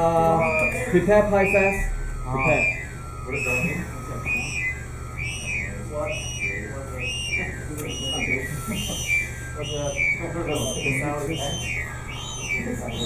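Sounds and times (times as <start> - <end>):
high tone rising and falling: 0.0 - 13.0
steady low hum: 0.0 - 13.0.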